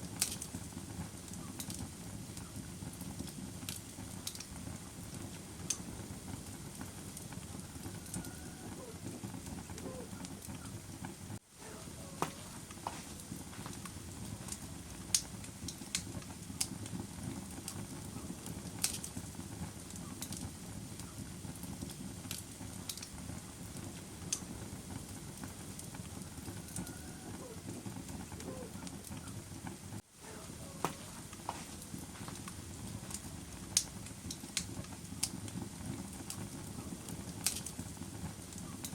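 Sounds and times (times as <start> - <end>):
fire popping and snapping: 0.0 - 38.9
wood fire crackling: 0.0 - 38.9.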